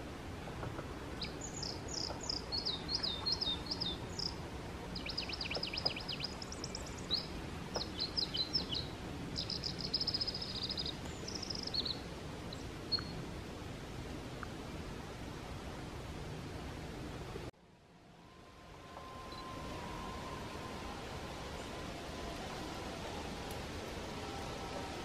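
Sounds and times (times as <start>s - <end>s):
songbird chirps and trills: 0.0s - 13.5s, 18.2s - 25.0s
steady background hiss: 0.0s - 25.0s.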